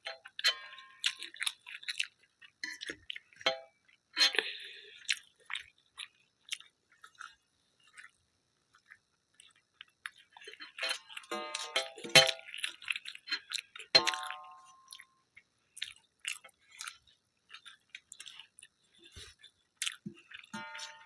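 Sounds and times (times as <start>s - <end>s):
person chewing: 0.0s - 21.0s.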